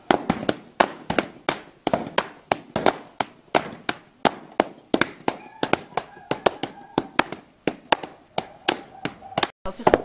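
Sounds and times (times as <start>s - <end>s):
carpet beaters slapping wet wool: 0.0s - 9.5s.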